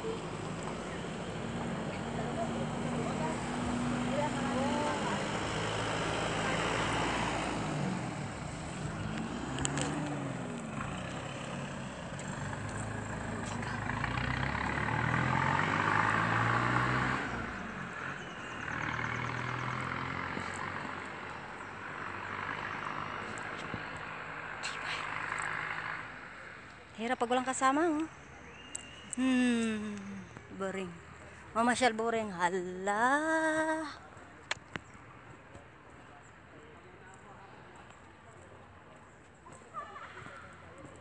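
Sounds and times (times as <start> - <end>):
passing vehicles engine hum: 0.0 - 41.0.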